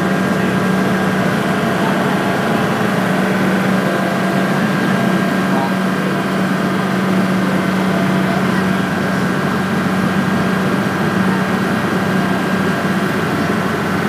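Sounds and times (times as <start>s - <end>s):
ferry engine droning: 0.0s - 14.0s.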